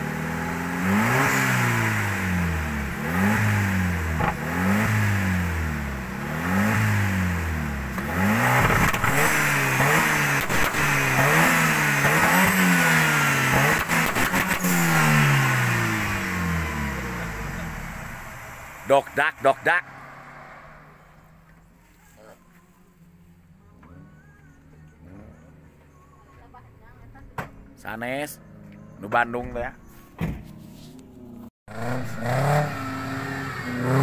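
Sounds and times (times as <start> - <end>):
engine revving: 0.0 - 22.4, 23.7 - 26.2, 31.2 - 34.0.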